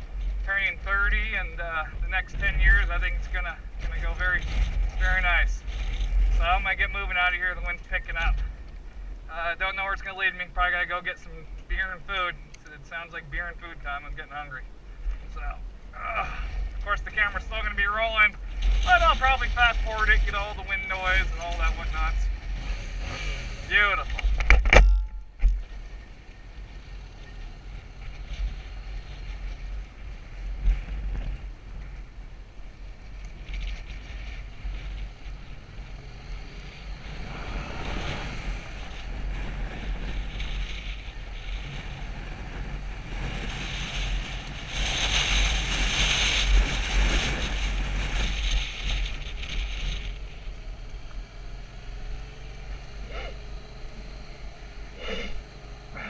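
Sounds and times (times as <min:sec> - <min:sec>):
wind buffeting microphone: 0:00.0 - 0:10.0, 0:11.4 - 0:56.0.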